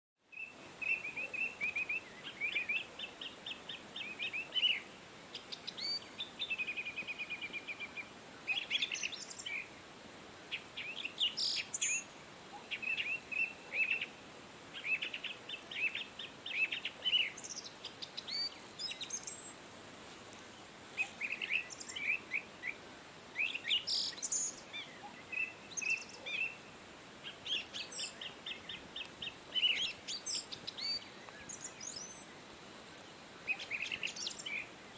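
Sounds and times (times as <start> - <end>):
faint steady hiss: 0.2 - 34.9
small birds chirping and trilling: 0.4 - 9.8, 10.5 - 19.6, 20.5 - 22.8, 23.4 - 34.9.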